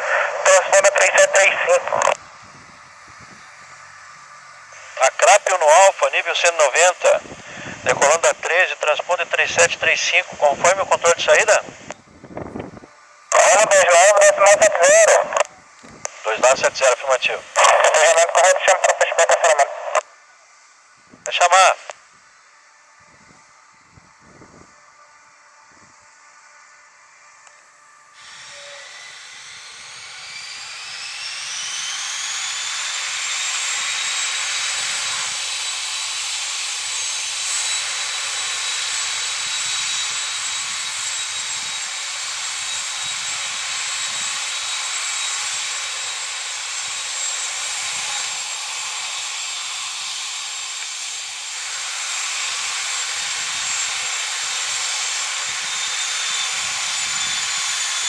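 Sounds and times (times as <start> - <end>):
aircraft turbine engine whine: 0.0 - 58.0.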